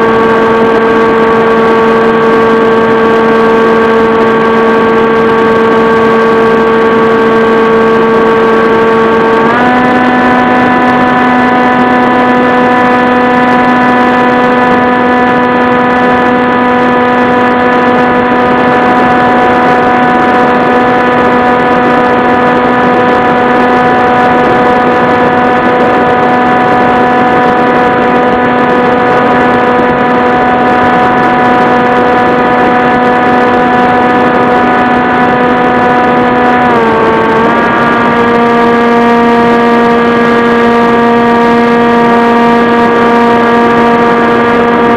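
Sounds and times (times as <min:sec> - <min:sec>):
model aircraft motor and propeller: 0:00.0 - 0:44.9.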